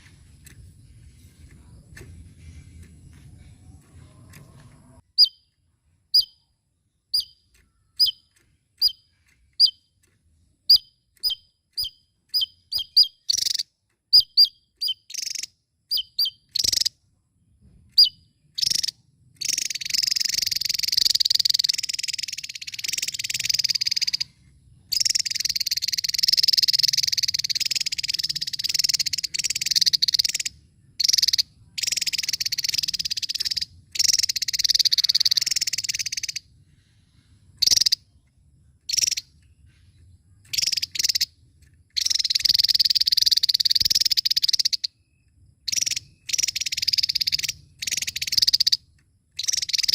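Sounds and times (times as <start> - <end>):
bird trilling song: 0.0 - 17.0, 17.9 - 49.9
bird chirping: 0.0 - 49.9.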